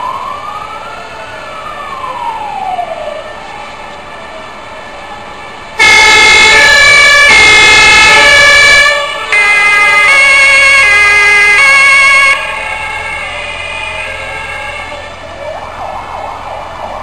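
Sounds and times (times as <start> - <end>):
fainter distant sirens: 0.0 - 17.0
fire engine two-tone siren: 0.0 - 17.0.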